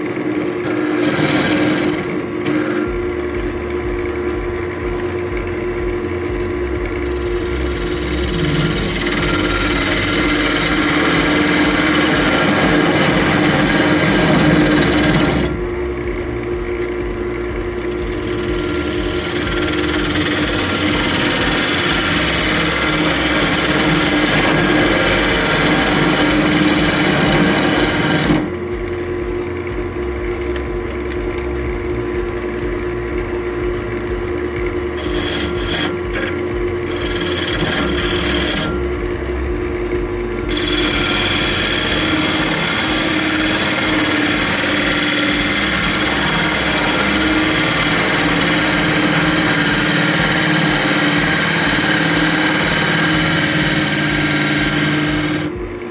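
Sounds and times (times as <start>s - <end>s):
turning tool cutting wood: 0.0s - 55.9s
wood lathe humming: 0.0s - 55.9s.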